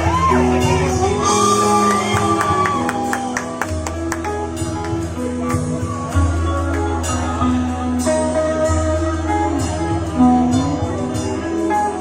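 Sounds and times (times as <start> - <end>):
live band playing: 0.0 - 12.0
sustained bass notes: 0.0 - 12.0.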